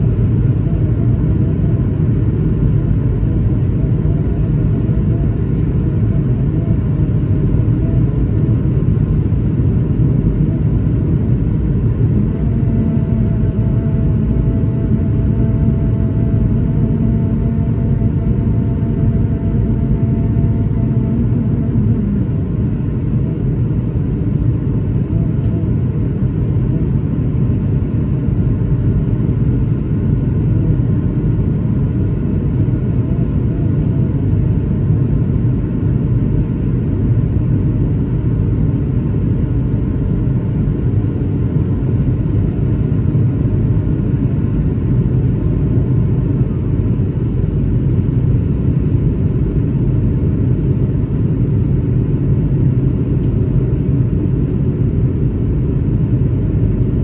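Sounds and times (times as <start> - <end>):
faint high whine: 0.0 - 57.0
jet engine low roar in cabin: 0.0 - 57.0.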